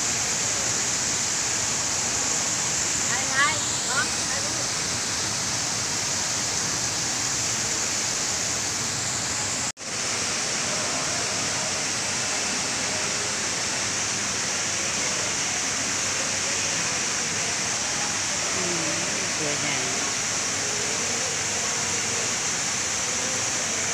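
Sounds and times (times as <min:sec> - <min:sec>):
waterfall splashing into pond: 0:00.0 - 0:23.9.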